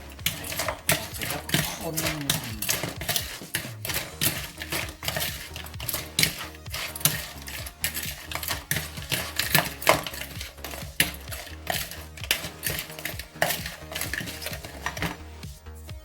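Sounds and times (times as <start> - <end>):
spoon scraping against bowl: 0.0 - 15.2.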